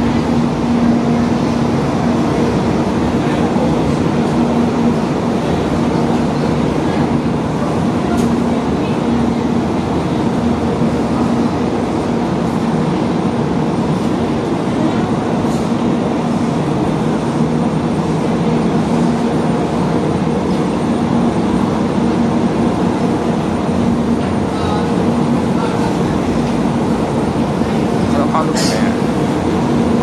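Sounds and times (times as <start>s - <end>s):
train equipment humming: 0.0s - 30.0s.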